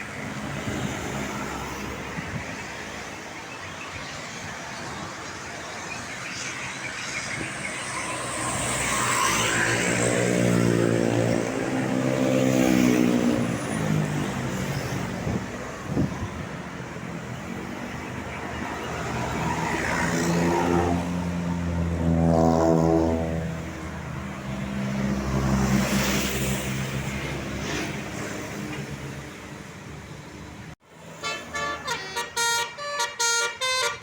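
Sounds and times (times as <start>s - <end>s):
bus diesel engines passing: 0.0s - 34.0s.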